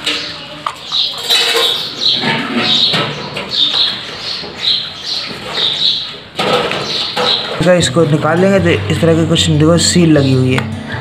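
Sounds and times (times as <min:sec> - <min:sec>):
birds chirping: 0:00.0 - 0:10.6.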